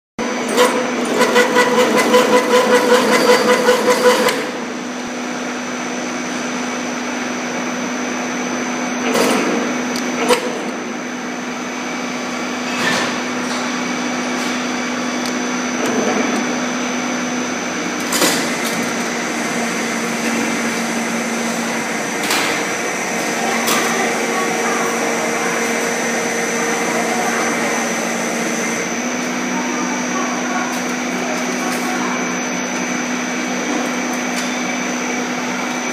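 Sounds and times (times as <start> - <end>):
weaving machine hum with whine: 0.2 - 35.9.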